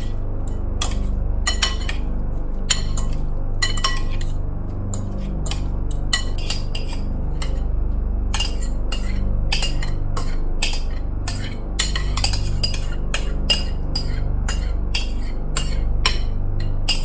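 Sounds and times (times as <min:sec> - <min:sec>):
spoon clinking against bowl: 0:00.0 - 0:02.0, 0:02.7 - 0:07.7, 0:08.4 - 0:17.0
low hum: 0:00.0 - 0:17.0.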